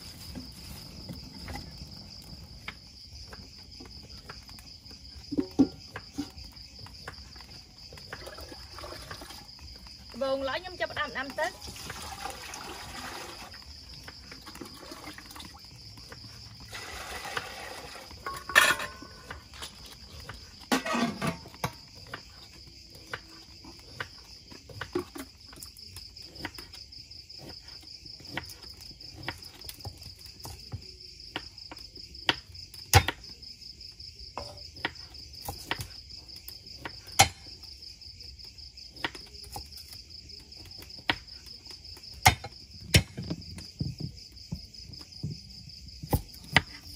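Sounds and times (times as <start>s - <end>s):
crickets chirring: 0.0s - 46.9s.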